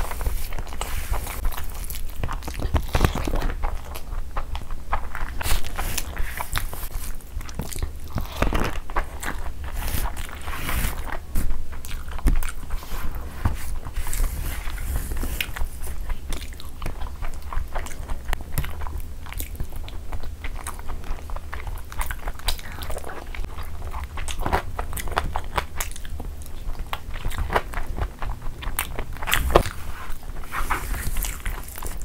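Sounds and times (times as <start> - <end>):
low steady hum: 0.0 - 32.0
wet chewing and smacking: 0.0 - 32.0.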